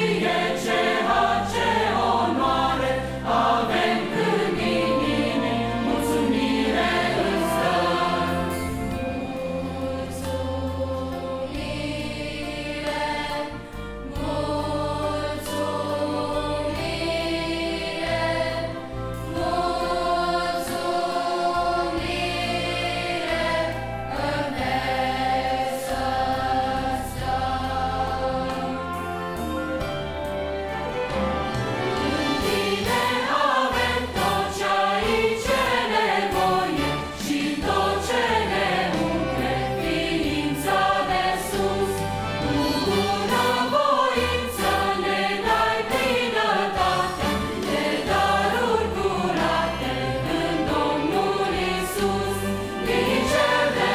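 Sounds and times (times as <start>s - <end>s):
choir singing a hymn: 0.0s - 53.9s.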